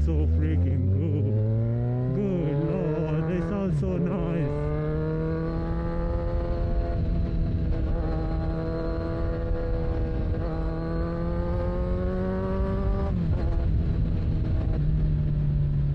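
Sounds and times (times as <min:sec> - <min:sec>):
motorcycle engine accelerating: 0:00.0 - 0:15.9.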